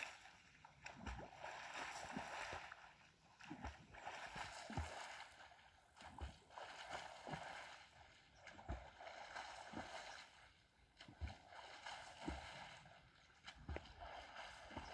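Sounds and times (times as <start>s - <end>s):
lake water washing: 0.0s - 14.9s
soft low water thumps: 0.0s - 14.9s.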